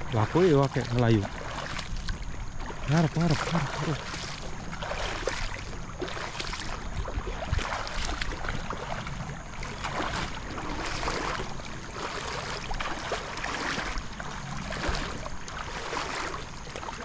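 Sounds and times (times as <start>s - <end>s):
river water splashing: 0.0s - 17.0s
wind rumble on microphone: 0.0s - 17.0s.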